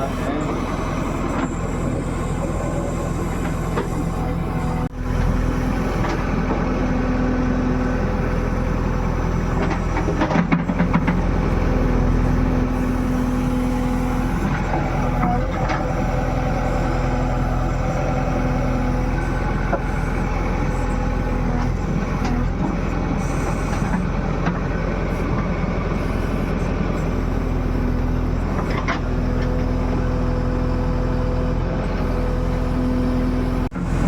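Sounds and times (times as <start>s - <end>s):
heavy engine running: 0.0s - 34.0s.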